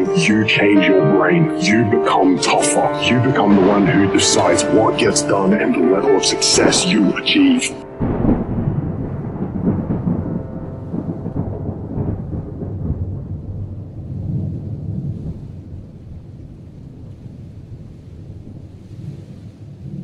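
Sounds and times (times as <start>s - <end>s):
deep thunder rumble: 0.0s - 20.0s.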